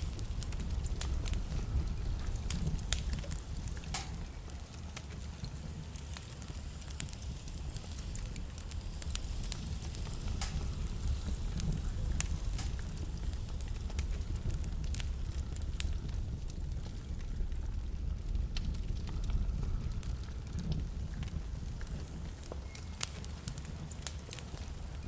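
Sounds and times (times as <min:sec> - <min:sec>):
fire low rumble: 0:00.0 - 0:25.0
logs crackling and popping: 0:00.0 - 0:25.0.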